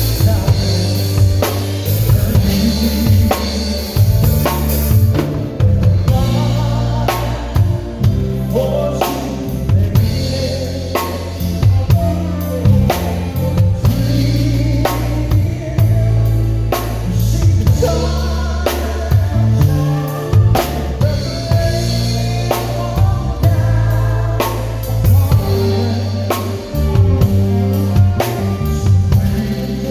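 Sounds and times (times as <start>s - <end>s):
bass line: 0.0s - 29.9s
drum kit playing: 0.0s - 29.9s
person singing: 0.0s - 29.9s.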